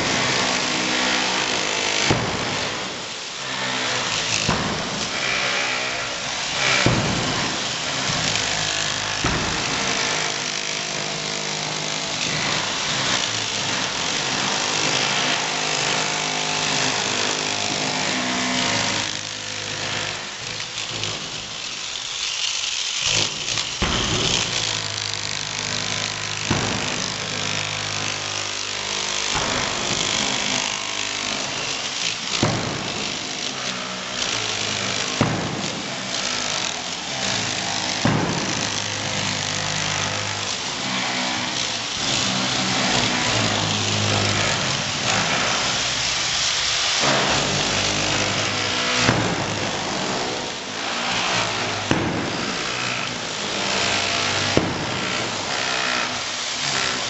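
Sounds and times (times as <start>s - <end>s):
demolition hammers rattling: 0.0s - 57.0s
sledgehammer striking concrete: 0.0s - 57.0s.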